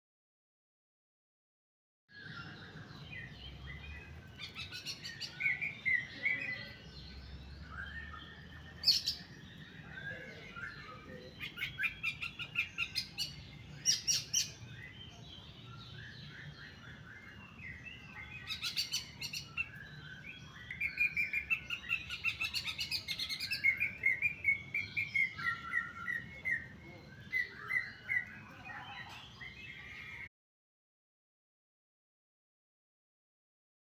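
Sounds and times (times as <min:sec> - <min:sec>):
songbird chirping and trilling: 0:02.1 - 0:30.3.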